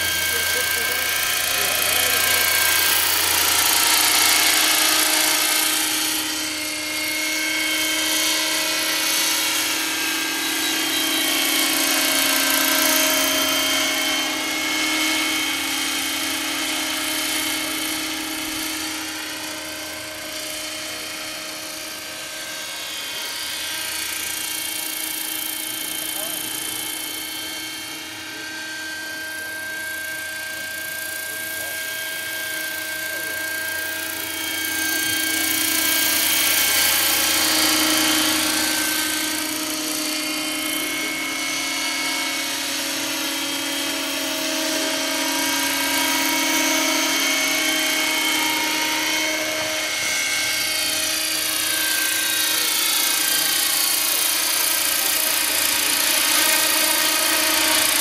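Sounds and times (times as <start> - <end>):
electric motor whine: 0.0 - 58.0
rotor blades whirring: 0.0 - 58.0.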